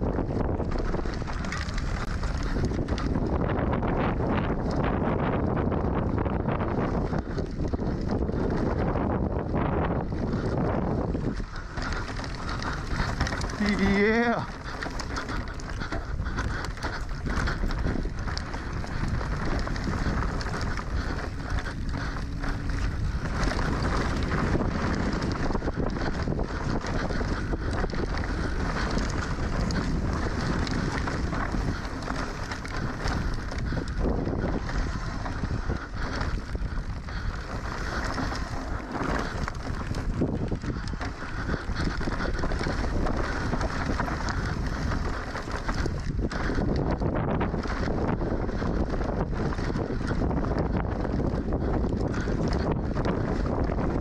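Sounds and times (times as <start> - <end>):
bike rattling and knocking: 0.0 - 54.0
wind on camera microphone: 0.0 - 54.0.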